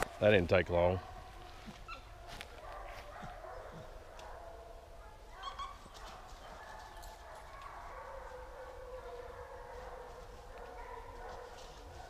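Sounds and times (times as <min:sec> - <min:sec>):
faint hounds barking and baying: 0:00.0 - 0:12.0.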